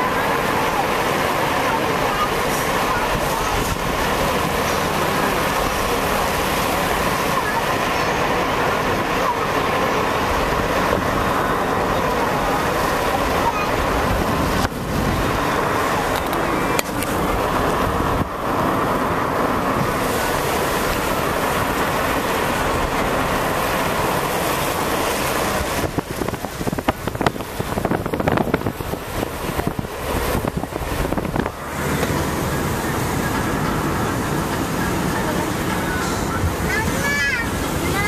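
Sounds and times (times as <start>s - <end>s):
tyre noise on wet road: 0.0s - 38.0s
wind buffeting: 0.0s - 38.0s.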